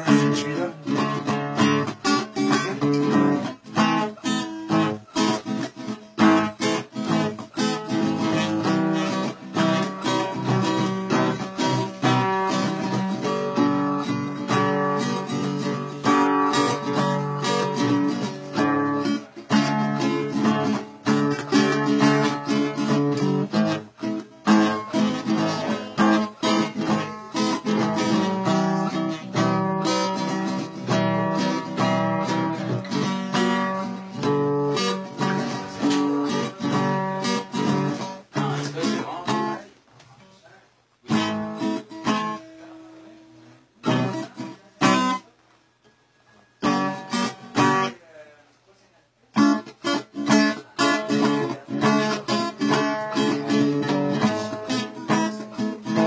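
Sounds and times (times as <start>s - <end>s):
acoustic guitar strumming: 0.0s - 40.4s, 41.0s - 45.3s, 46.3s - 48.2s, 49.3s - 56.0s.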